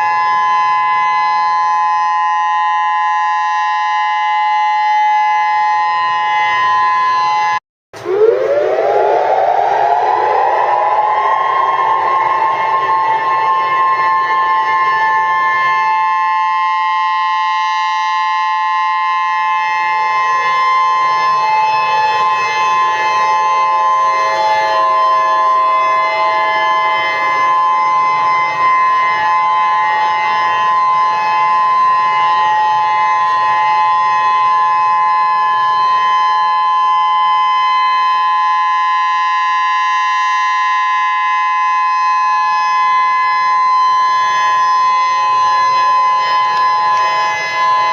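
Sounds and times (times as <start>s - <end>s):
emergency alert signal: 0.0s - 47.9s.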